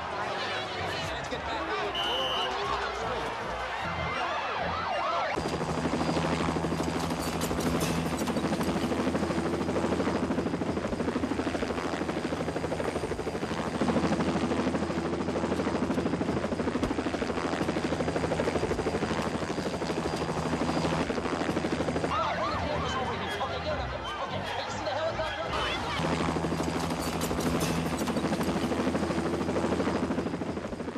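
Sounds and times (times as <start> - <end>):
helicopter engine hum: 0.0 - 30.9
helicopter rotor blades chopping: 0.0 - 30.9.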